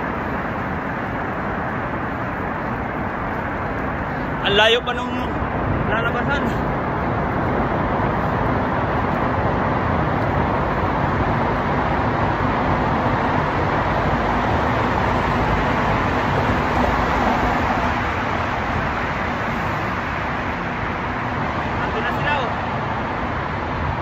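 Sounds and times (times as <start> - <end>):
traffic echoing in tunnel: 0.0 - 24.0
truck passing: 0.0 - 24.0.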